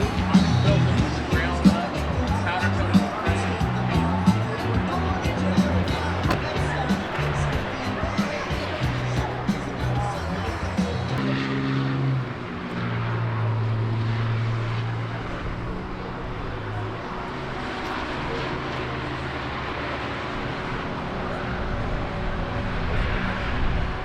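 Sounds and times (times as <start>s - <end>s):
engine droning: 0.0s - 24.0s
outdoor background noise: 0.0s - 24.0s.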